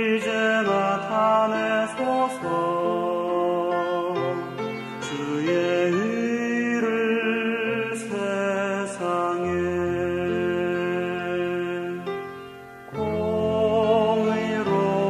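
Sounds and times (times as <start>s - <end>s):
slow praise music with held chords: 0.0s - 15.0s.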